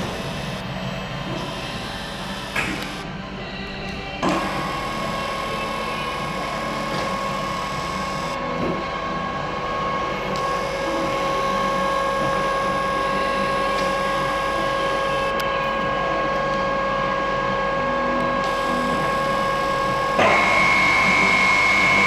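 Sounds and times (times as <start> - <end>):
drilling machine gear whine: 0.0 - 22.0.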